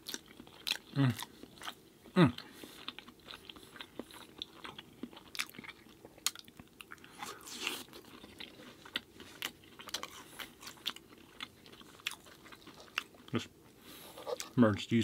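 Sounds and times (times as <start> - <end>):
person chewing food: 0.0 - 14.6.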